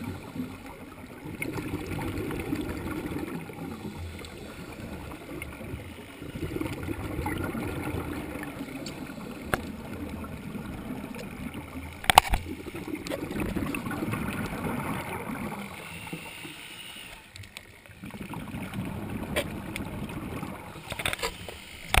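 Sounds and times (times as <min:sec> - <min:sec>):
underwater exhaust bubbles gurgling: 0:00.0 - 0:22.0.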